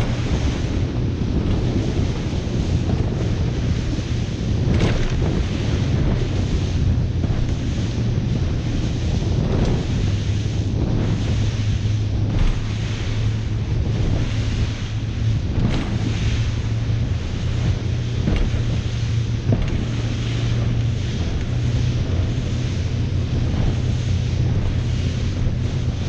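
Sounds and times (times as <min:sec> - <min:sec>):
boat engine drone: 0:00.0 - 0:26.0
sea water wash: 0:00.0 - 0:26.0
wind buffeting microphone: 0:00.0 - 0:26.0.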